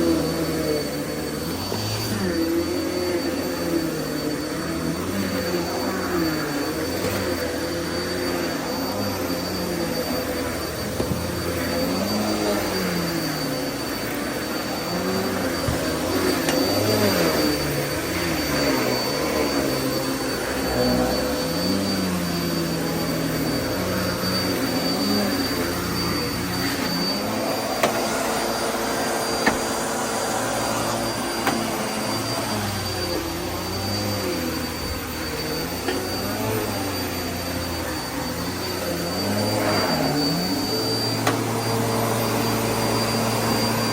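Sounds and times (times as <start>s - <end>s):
vacuum cleaner whining: 0.0s - 43.9s.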